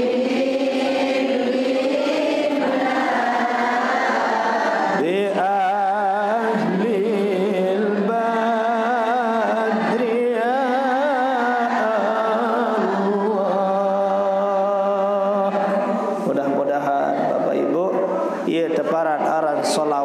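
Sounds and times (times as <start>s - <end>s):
person singing devotional chant: 0.0s - 20.0s.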